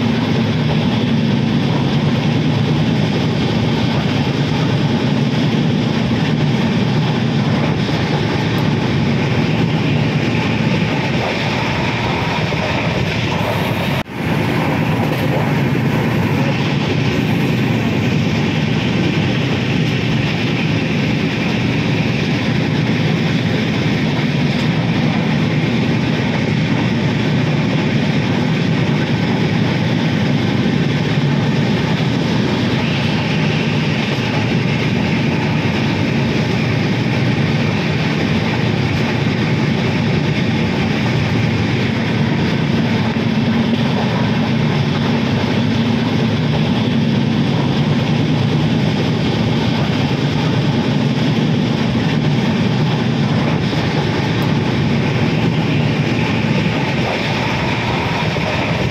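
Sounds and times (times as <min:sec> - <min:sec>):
train rumbling across bridge: 0:00.0 - 0:58.9.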